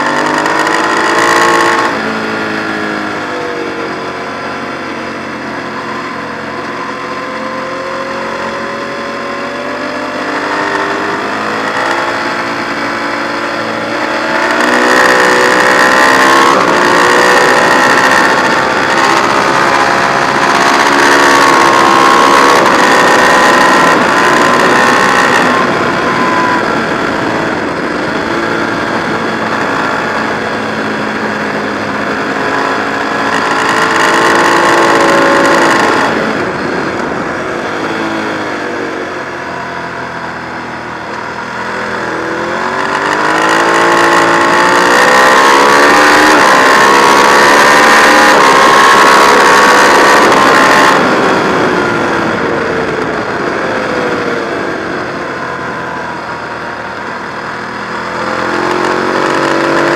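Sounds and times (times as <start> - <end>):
motorcycle engine running hard: 0.0 - 59.9
wind noise: 0.0 - 59.9.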